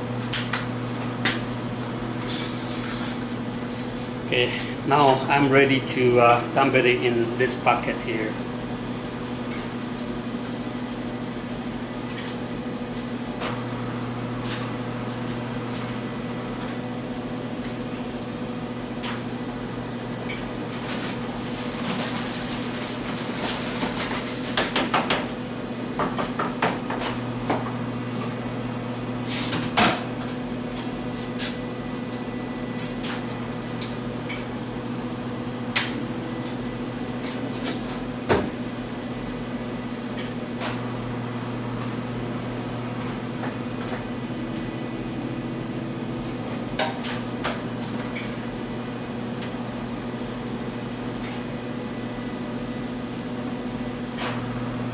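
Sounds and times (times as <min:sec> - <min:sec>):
steady electrical hum: 0:00.0 - 0:54.9.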